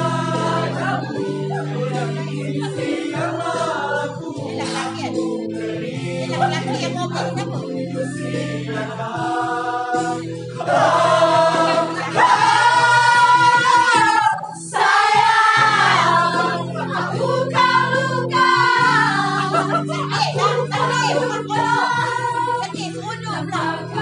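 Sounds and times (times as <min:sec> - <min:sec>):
choir singing: 0:00.0 - 0:24.0
instrumental accompaniment: 0:00.0 - 0:24.0.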